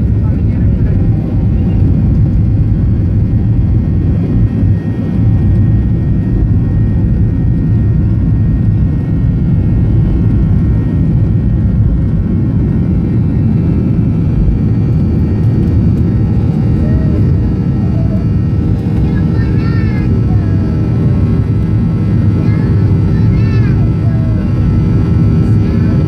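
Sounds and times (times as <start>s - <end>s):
high engine whine: 0.0s - 26.0s
jet engine rumble: 0.0s - 26.0s.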